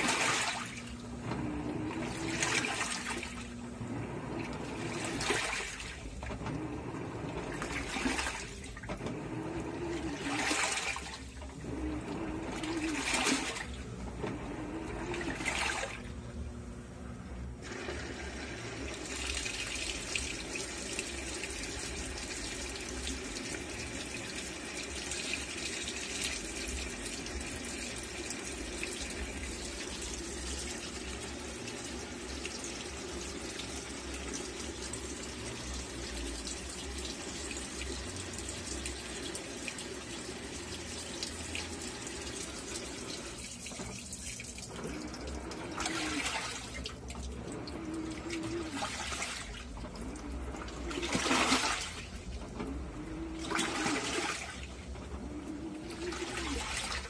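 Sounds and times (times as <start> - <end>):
water pouring into washing machine: 0.0 - 16.4, 17.4 - 57.0.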